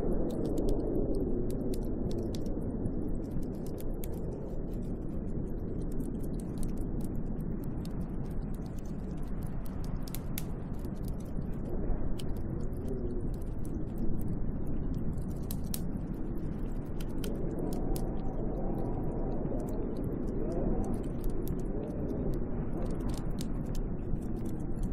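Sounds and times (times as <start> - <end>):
snowstorm wind howling: 0.0 - 24.9.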